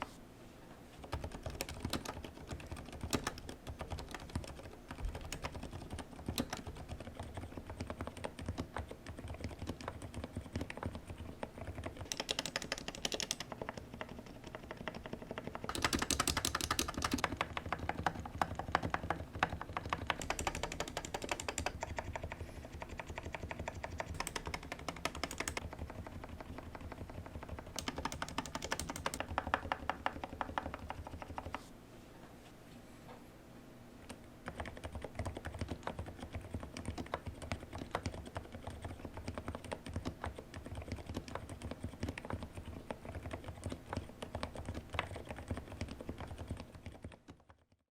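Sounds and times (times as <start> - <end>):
rapid typing on mechanical keyboard: 1.0 - 31.6, 34.4 - 47.8.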